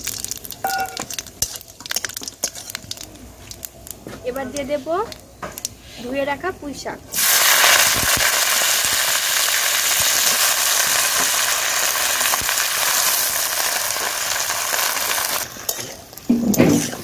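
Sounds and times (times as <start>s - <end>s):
wet greens sizzling in hot oil: 0.0s - 4.8s, 7.1s - 17.0s.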